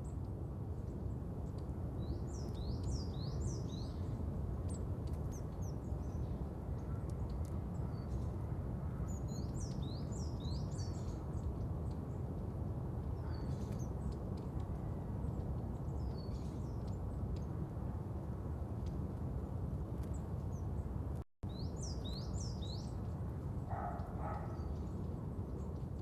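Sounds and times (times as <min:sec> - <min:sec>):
birds chirping: 0:01.5 - 0:17.7, 0:20.0 - 0:26.0.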